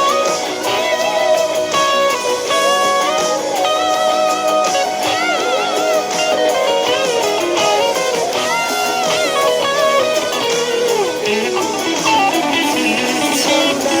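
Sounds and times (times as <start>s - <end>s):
electric guitar melody with bends: 0.0s - 14.0s
sustained guitar notes: 0.0s - 14.0s.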